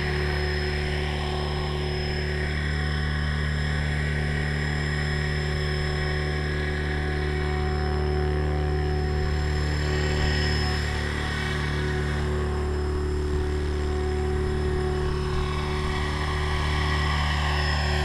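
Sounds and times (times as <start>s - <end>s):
drone motors and propellers humming: 0.0s - 18.0s.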